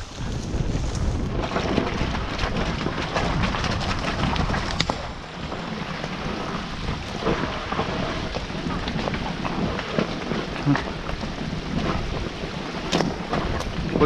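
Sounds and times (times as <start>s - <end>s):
sharp clicks and crackles: 0.0s - 14.0s
wind buffeting microphone: 0.0s - 14.0s.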